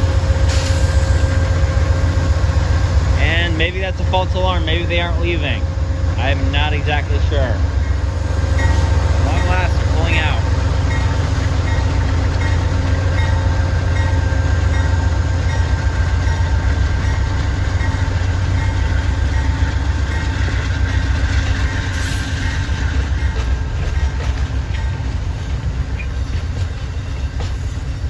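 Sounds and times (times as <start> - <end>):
diesel train deep rumble: 0.0 - 28.0.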